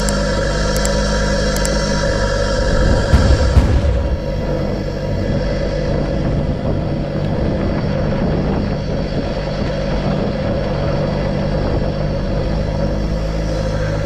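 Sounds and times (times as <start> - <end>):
pickup truck engine under load: 0.0 - 14.0.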